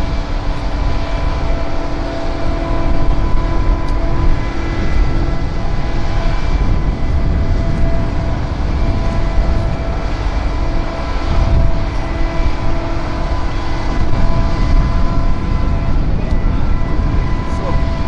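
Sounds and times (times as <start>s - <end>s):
aircraft engine rumbling: 0.0s - 18.0s.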